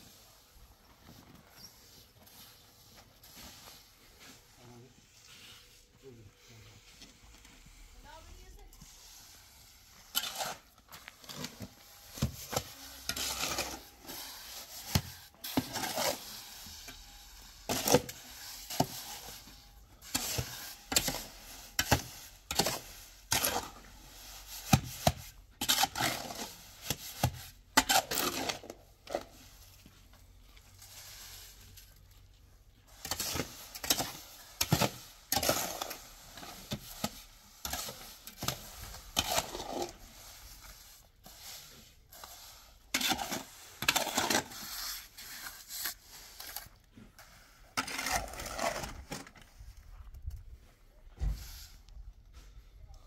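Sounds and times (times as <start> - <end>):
short scraping noises: 1.0 - 29.8, 32.9 - 50.2.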